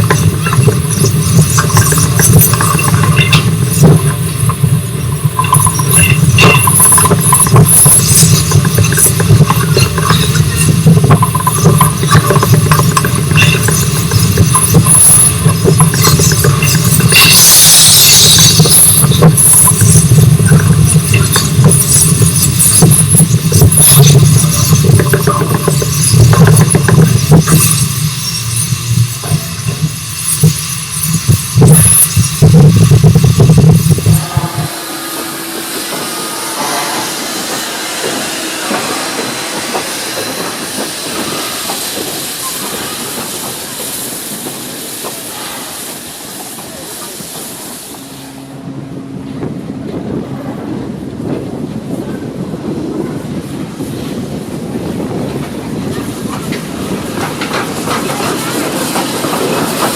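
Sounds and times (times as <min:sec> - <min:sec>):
steam train rumbling: 0:00.0 - 0:59.9
train clanks and knocks: 0:00.0 - 0:59.9.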